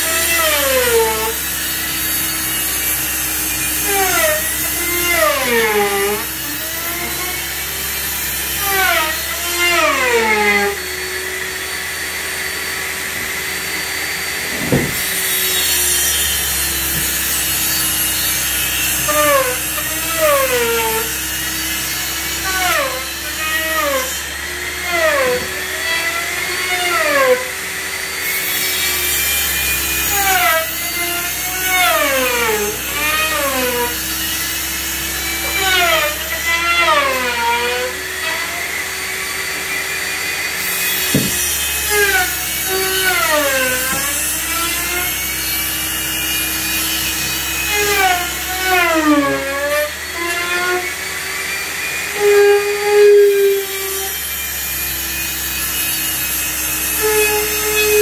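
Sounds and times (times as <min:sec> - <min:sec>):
router motor whine: 0:00.0 - 0:58.0.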